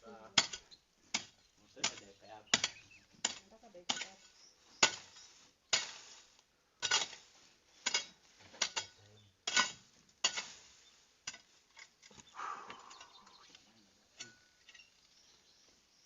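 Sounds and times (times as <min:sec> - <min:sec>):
hand tool striking ground: 0:00.2 - 0:13.4, 0:14.1 - 0:15.2.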